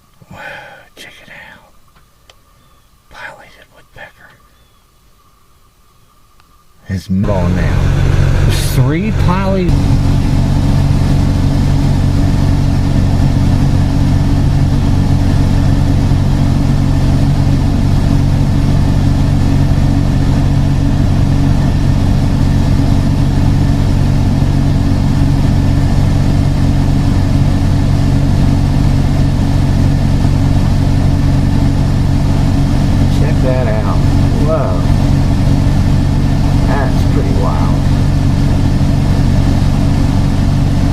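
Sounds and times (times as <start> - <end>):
vehicle engine idling: 7.2 - 40.9.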